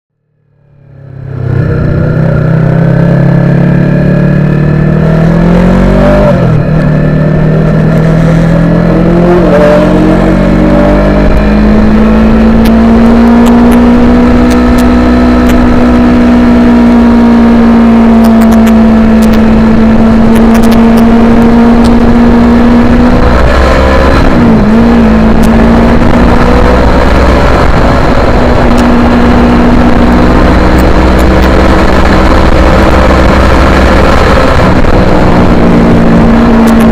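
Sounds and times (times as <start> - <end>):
motorcycle engine running hard: 0.7 - 36.9.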